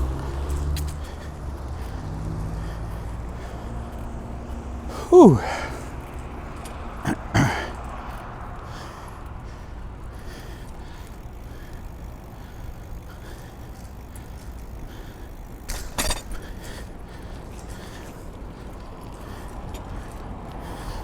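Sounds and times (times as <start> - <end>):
bicycle rattle: 0.0 - 21.0
road rumble: 0.0 - 21.0
wind: 0.0 - 21.0.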